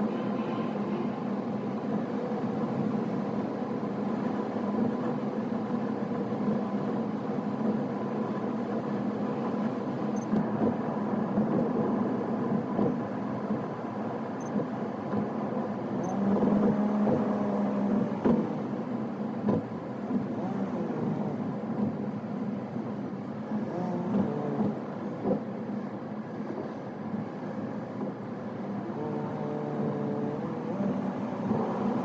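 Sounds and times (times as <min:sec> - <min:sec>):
car road and engine noise: 0:00.0 - 0:32.0.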